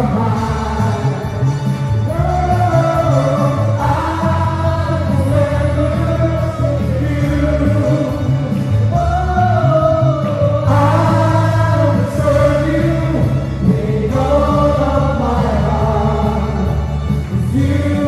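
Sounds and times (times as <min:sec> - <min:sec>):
electric bass: 0:00.0 - 0:18.0
keyboard: 0:00.0 - 0:18.0
voices singing together: 0:00.0 - 0:18.0.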